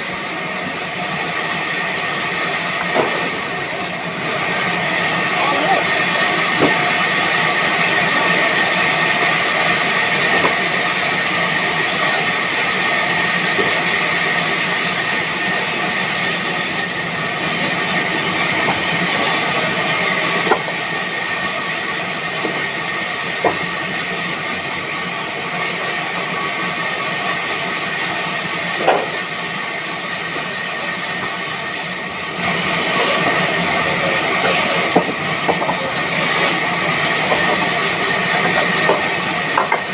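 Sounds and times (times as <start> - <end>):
band saw machinery humming: 0.0 - 39.9.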